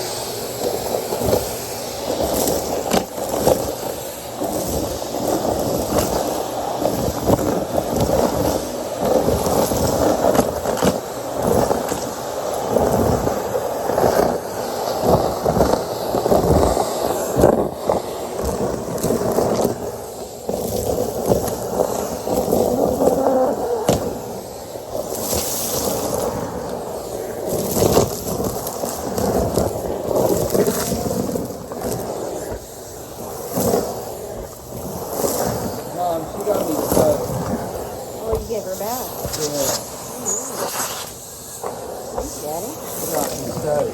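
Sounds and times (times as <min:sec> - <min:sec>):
debris rattling through hose: 0:00.0 - 0:43.9
vacuum cleaner running: 0:00.0 - 0:43.9.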